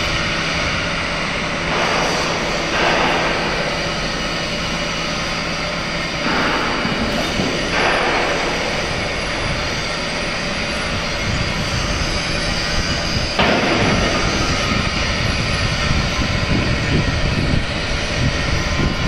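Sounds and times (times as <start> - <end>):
hydraulic crane machinery running: 0.0 - 19.0.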